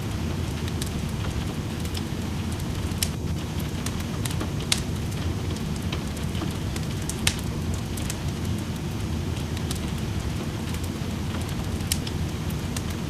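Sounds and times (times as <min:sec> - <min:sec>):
steady rain: 0:00.0 - 0:13.0
wood fire crackling: 0:00.0 - 0:13.0
fire popping sharply: 0:00.1 - 0:13.0.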